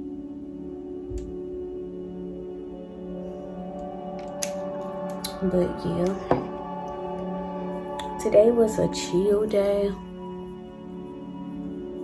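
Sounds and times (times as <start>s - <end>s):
soft music of ringing tones: 0.0s - 12.0s.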